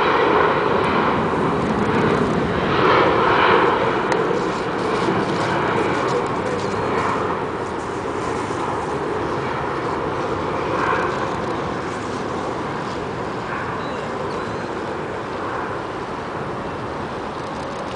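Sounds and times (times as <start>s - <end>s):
jet engines rumbling: 0.0s - 17.9s.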